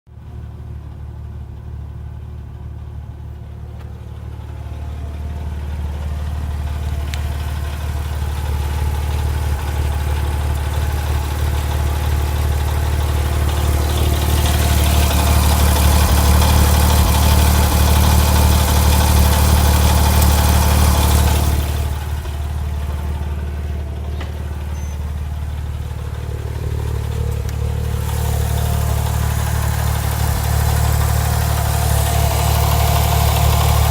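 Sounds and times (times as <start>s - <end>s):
car engine idling: 0.1s - 33.9s
engine ticking noise: 0.3s - 33.9s.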